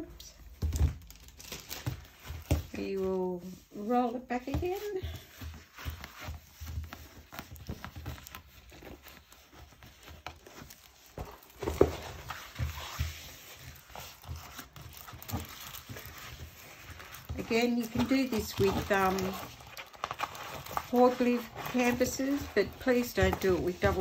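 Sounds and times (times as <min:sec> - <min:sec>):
plastic film rustling and crinkling: 0:00.0 - 0:24.0.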